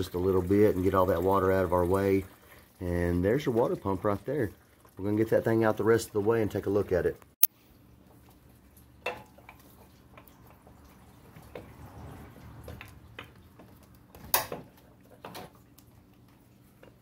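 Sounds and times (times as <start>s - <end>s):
coolant dripping: 0.0s - 6.7s, 7.8s - 17.0s.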